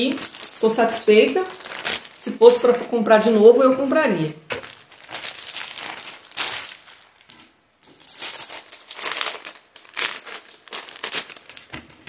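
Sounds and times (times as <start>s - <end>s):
foil balloons and plastic crinkling: 0.0s - 12.0s.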